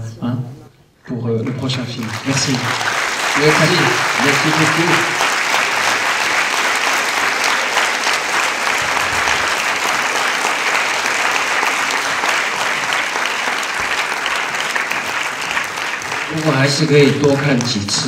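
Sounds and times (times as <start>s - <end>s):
audience applauding: 1.4s - 18.0s.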